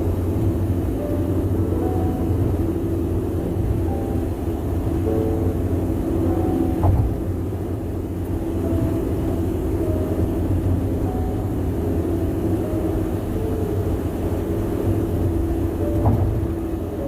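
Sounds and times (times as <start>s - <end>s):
car tyres rumbling on road: 0.0s - 17.0s.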